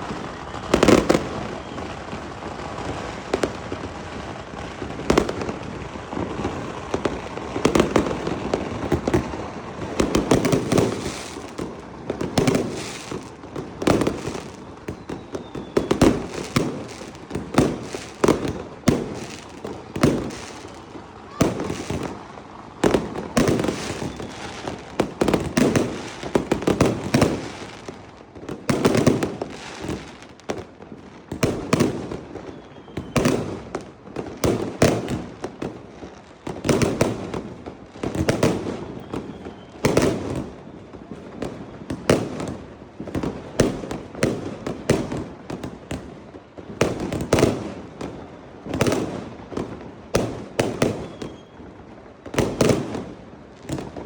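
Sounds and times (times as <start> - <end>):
crackling fireworks reports: 0.0 - 54.0
fireworks bursting: 0.0 - 54.0.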